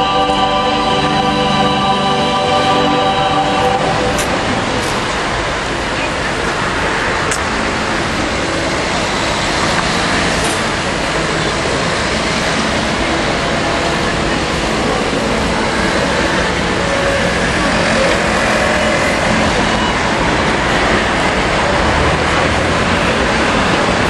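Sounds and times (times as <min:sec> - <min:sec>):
indistinct voices: 0:00.0 - 0:24.0
road traffic: 0:00.0 - 0:24.0.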